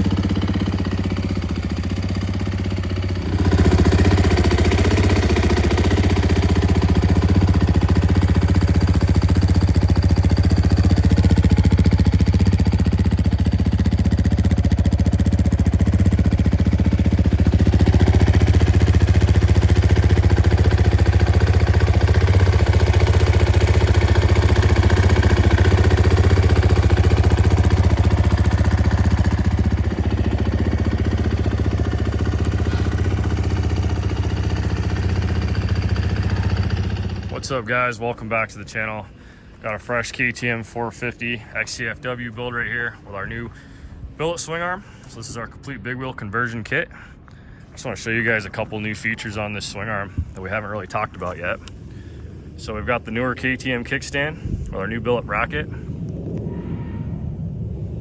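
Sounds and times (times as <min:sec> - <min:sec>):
motorcycle engine idling: 0:00.0 - 0:45.4, 0:47.5 - 0:55.7.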